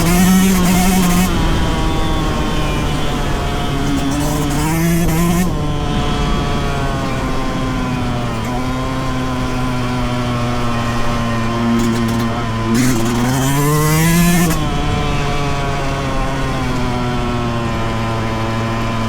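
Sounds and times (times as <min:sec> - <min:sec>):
two-stroke motorcycle engine: 0:00.0 - 0:19.0.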